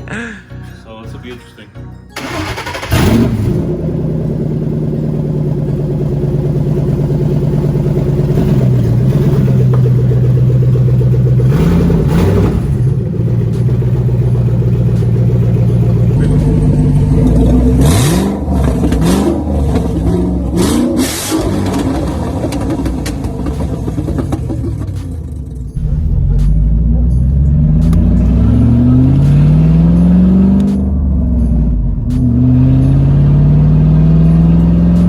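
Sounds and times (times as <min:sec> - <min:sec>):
car engine idling and revving: 0:02.2 - 0:35.0.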